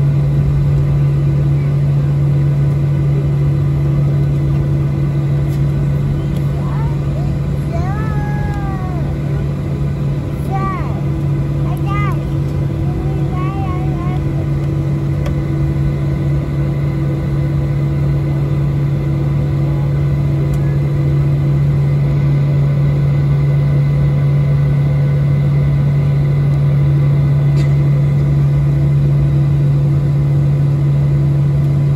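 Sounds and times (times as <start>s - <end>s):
airplane cabin drone: 0.0s - 31.9s.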